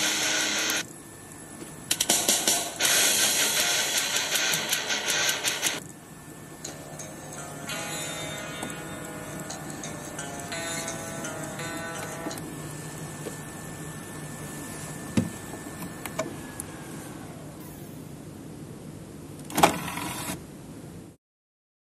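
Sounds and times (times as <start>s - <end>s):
disc drive motor whine: 0.0s - 18.0s.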